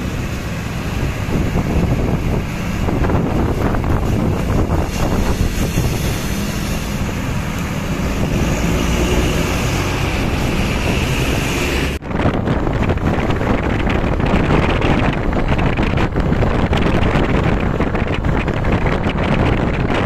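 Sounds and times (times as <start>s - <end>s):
bus engine: 0.0s - 20.0s
road noise: 0.0s - 20.0s
wind buffeting microphone: 0.0s - 20.0s.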